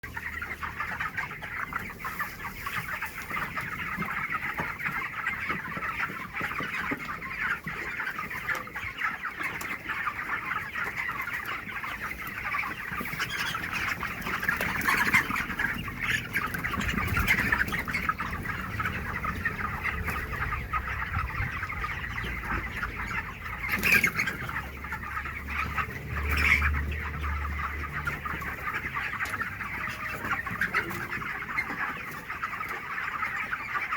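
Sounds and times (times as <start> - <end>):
chickens calling: 0.0 - 33.9.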